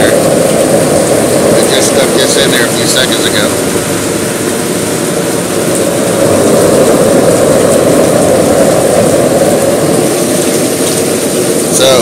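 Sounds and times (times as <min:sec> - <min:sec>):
gas burner flame rushing: 0:00.0 - 0:12.0.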